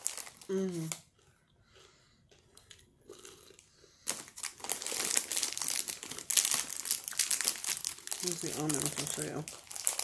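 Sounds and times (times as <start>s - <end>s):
plastic snack bag crinkling: 0.0s - 1.4s, 2.5s - 10.0s.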